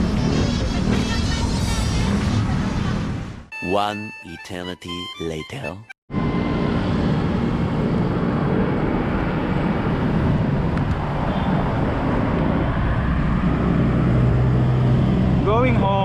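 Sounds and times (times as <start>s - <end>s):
vehicle engine hum: 0.0s - 3.5s, 6.1s - 16.0s
road traffic noise: 0.0s - 4.3s, 6.1s - 16.0s.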